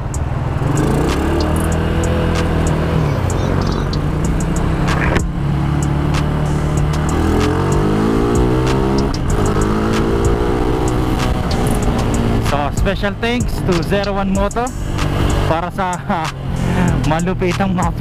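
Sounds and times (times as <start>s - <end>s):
faint music beat: 0.0s - 18.0s
motorcycle engine revving: 0.0s - 18.0s.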